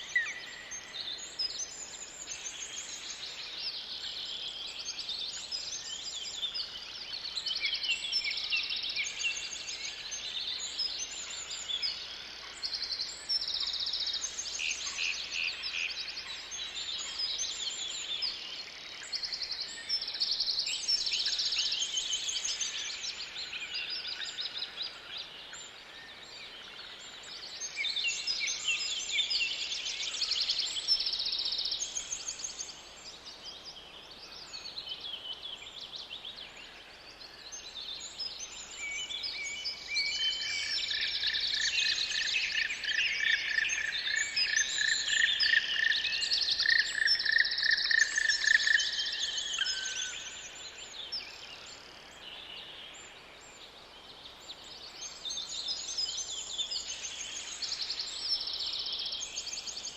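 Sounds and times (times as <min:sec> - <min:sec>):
forest birds singing: 0:00.0 - 0:59.9.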